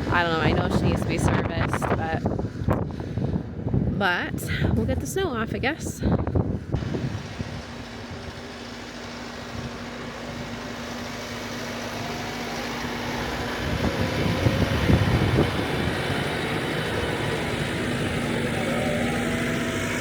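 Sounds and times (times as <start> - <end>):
plow knocking and scraping snow: 0.0 - 20.0
tractor diesel engine running: 0.0 - 20.0.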